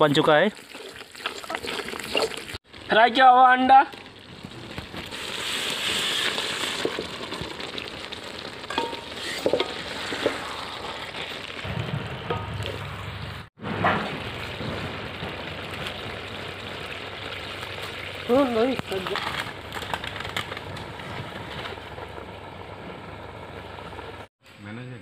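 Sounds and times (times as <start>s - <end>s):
eggs sizzling in gravy: 0.0s - 24.3s.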